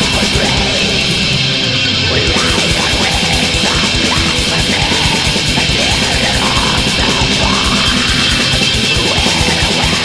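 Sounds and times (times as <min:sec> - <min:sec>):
rapid drumming: 0:00.0 - 0:01.4, 0:02.2 - 0:10.0
bass guitar: 0:00.0 - 0:10.0
distorted electric guitars: 0:00.0 - 0:10.0.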